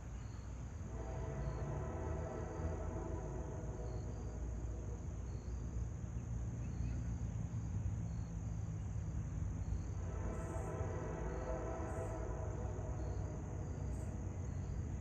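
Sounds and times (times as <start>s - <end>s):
high insect chirp: 0.0s - 15.0s.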